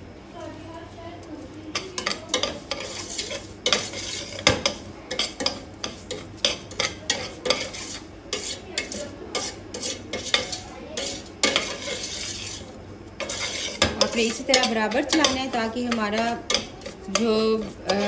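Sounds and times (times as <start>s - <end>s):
spoon stirring and scraping in pot: 1.4s - 18.0s.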